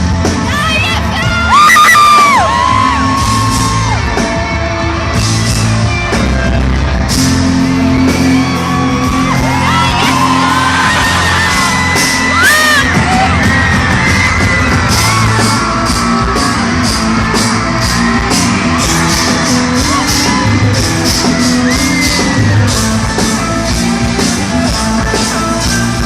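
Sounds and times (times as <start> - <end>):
crowd shouting and whooping: 0.0 - 26.0
live pop-rock band: 0.0 - 26.0
drums with cymbal strikes: 1.8 - 26.0.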